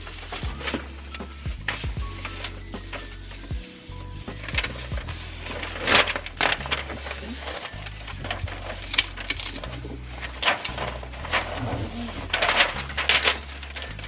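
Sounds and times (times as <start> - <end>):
background music bass line: 0.0 - 14.0.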